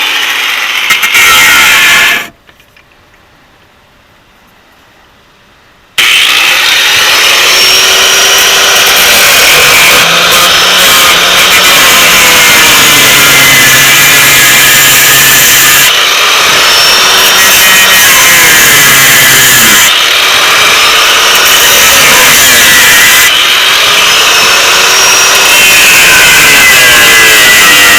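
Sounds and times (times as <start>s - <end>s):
cut-off wheel cutting metal: 0.0s - 2.4s, 6.0s - 27.9s.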